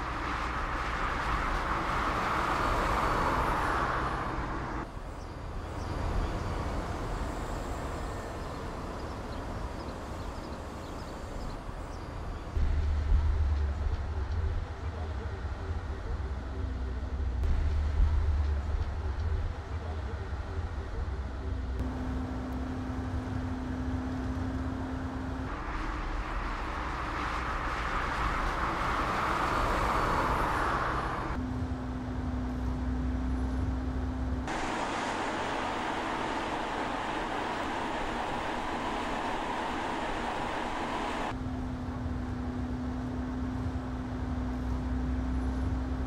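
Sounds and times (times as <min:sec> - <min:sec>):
tyre and road noise: 0:00.0 - 0:46.0
steady low hum: 0:06.0 - 0:46.0.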